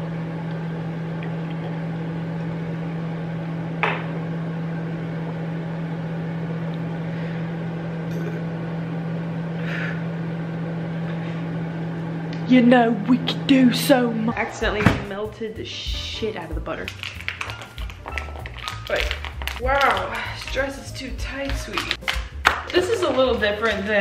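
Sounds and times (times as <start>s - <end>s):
microwave oven humming: 0.0s - 21.8s.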